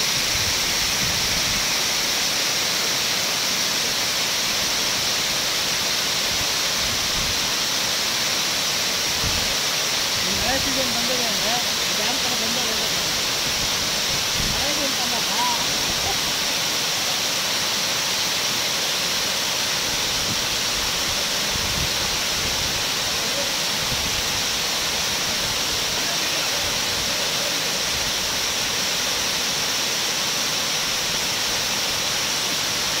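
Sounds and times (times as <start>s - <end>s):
water cascading over dam: 0.0s - 33.0s.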